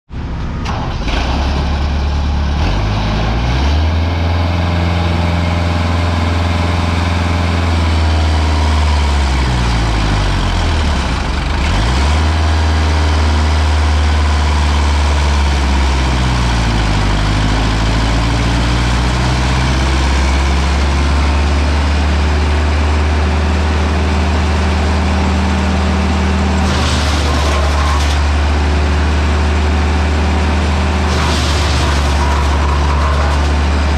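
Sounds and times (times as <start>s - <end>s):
wood chipper diesel engine running: 0.1s - 33.9s.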